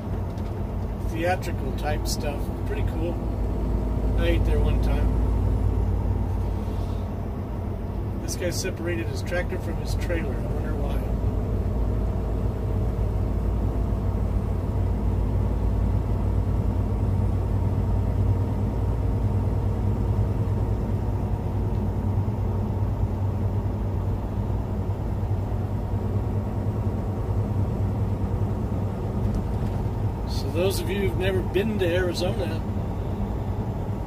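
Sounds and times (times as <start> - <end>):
truck diesel engine droning: 0.0 - 34.0.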